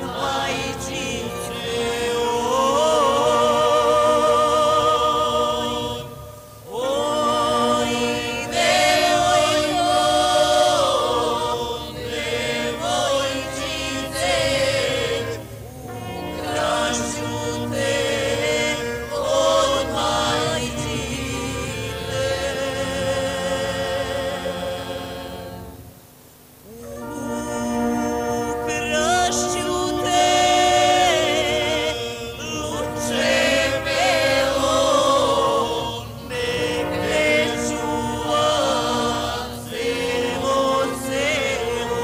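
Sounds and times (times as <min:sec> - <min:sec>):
choir singing held notes: 0:00.0 - 0:26.0, 0:26.6 - 0:42.0
background music: 0:00.0 - 0:42.0.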